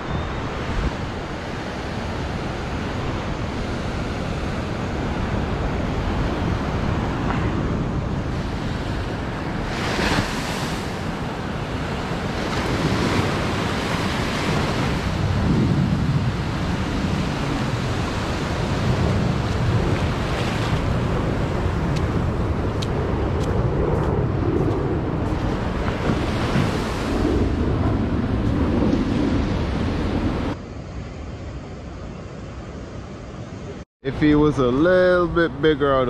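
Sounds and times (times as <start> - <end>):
ocean surf breaking on beach: 0.0 - 36.0
wind buffeting microphone: 0.0 - 36.0.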